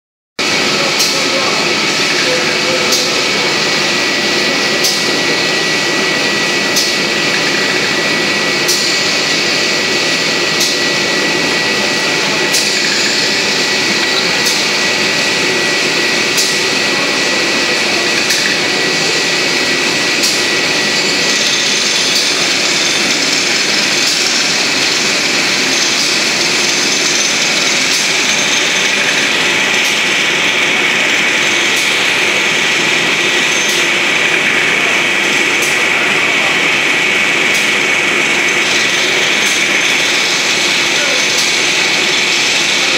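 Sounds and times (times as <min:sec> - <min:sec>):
high mechanical whine: 0:00.4 - 0:42.9
pellet mill running: 0:00.4 - 0:42.9.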